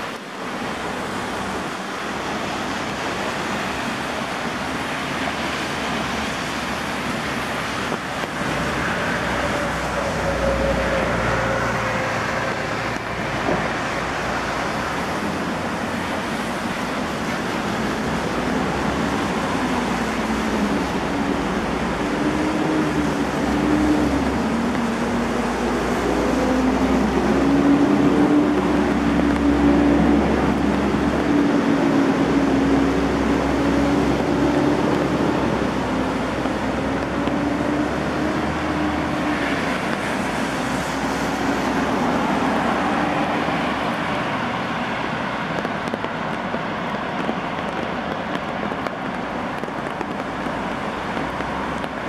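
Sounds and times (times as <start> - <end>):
heavy rain on street: 0.0 - 52.0.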